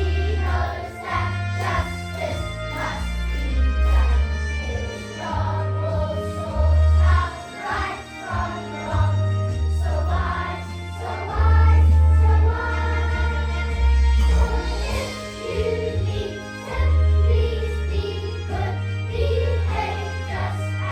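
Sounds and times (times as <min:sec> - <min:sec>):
children's choir singing: 0:00.0 - 0:20.9
musical accompaniment with bass: 0:00.0 - 0:20.9.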